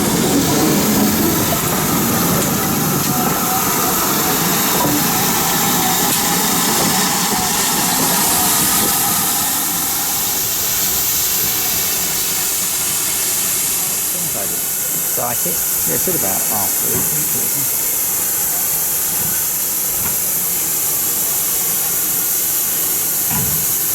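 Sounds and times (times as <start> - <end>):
steam locomotive hissing: 0.0 - 23.9.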